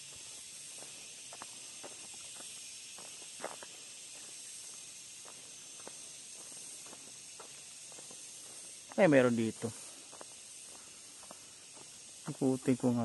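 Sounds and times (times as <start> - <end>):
steady high hiss: 0.0 - 13.0
footsteps on concrete pavement: 0.1 - 9.0, 9.7 - 12.0.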